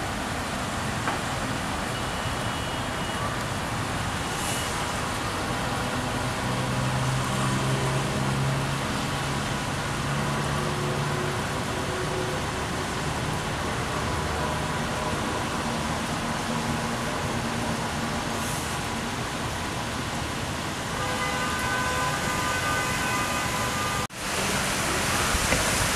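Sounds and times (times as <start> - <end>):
city traffic noise: 0.0 - 25.9.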